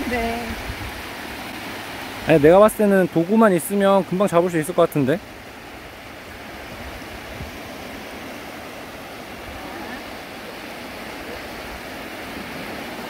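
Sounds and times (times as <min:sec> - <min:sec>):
small waves washing on sand: 0:00.0 - 0:13.0.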